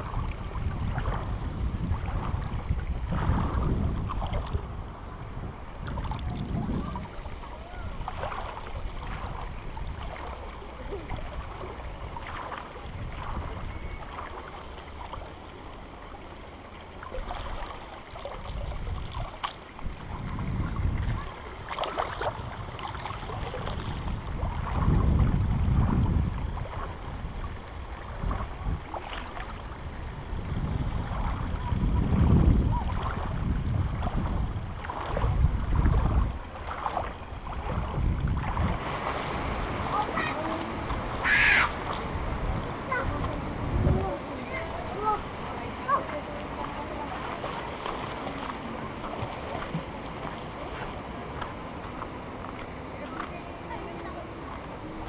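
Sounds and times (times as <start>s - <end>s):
wind on microphone: 0.0s - 14.4s, 17.0s - 55.0s
river water sloshing and splashing: 0.0s - 55.0s
rumbling surges of water: 0.0s - 55.0s.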